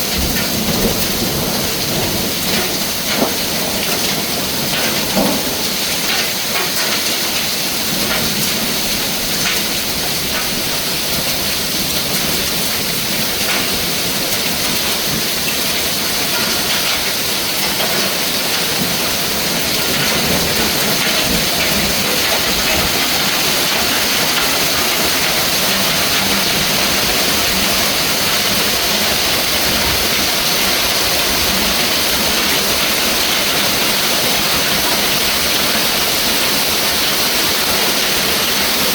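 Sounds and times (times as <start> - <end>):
hailstones ticking: 0.0 - 38.9
heavy rain hissing: 0.0 - 38.9.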